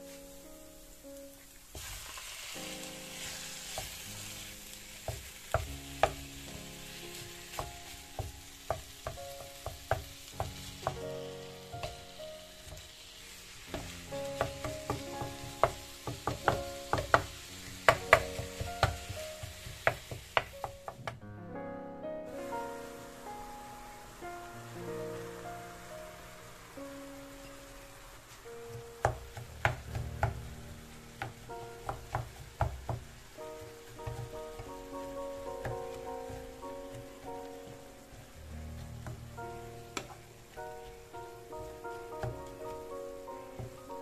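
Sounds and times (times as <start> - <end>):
meat sizzling in a pan: 0.0 - 21.1, 22.3 - 44.0
wooden spatula scraping a pan: 1.5 - 21.0, 27.7 - 44.0.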